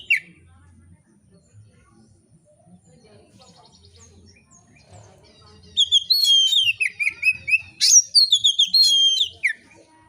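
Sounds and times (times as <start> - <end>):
bird singing: 0.0 - 0.4, 1.4 - 9.9.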